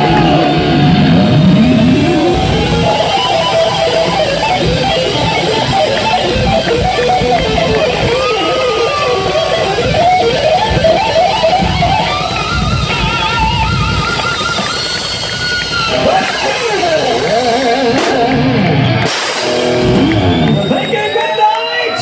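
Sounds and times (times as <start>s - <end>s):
bass and drums: 0.0s - 21.2s
electric guitar solo: 0.0s - 22.0s.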